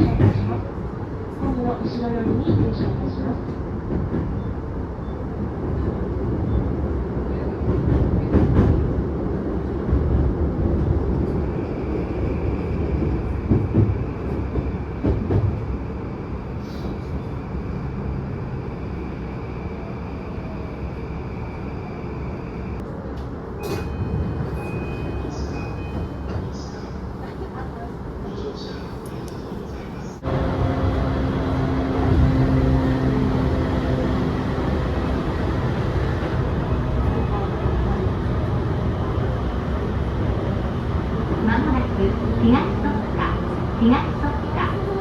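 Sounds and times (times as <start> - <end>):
train wheels rumbling on rails: 0.0 - 18.7, 22.5 - 45.0.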